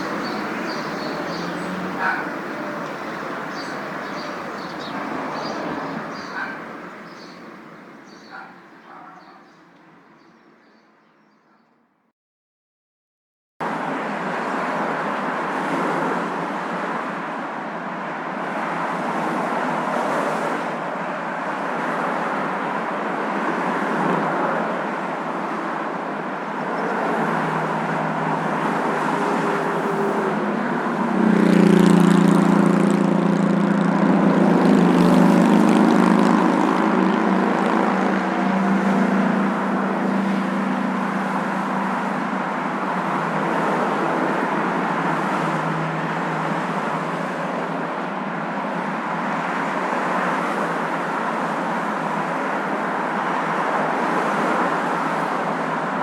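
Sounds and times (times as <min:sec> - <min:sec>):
moving car road and engine noise: 0:00.0 - 0:11.9, 0:13.6 - 0:56.0.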